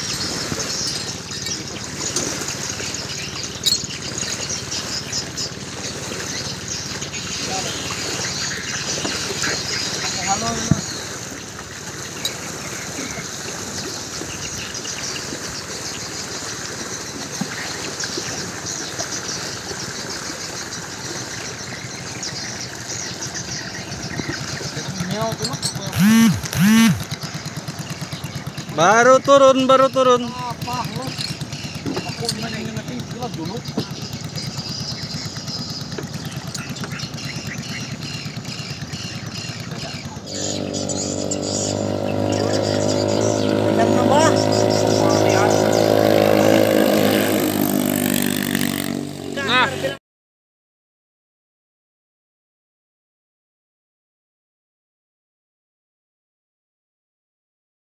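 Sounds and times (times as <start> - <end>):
distant boat engine running: 0.0 - 50.0
river ambience: 0.0 - 50.0.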